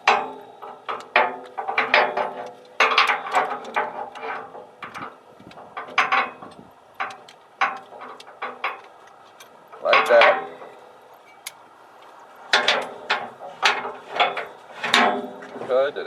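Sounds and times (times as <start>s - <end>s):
steel cable clinking against metal: 0.0s - 16.0s.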